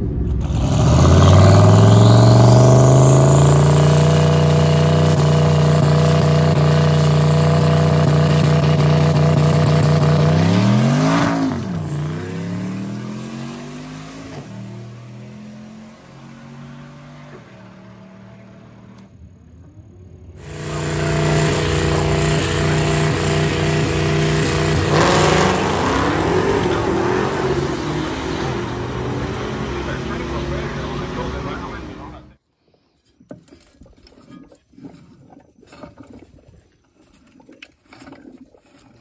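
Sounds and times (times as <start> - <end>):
car engine revving: 0.0 - 19.3, 19.9 - 32.4
car accelerating away: 0.0 - 32.4.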